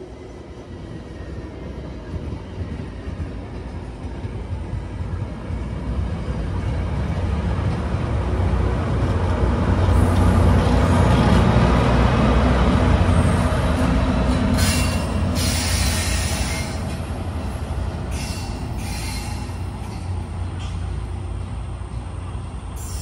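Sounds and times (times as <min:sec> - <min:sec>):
train engine and wheels rumbling: 0:00.0 - 0:23.0.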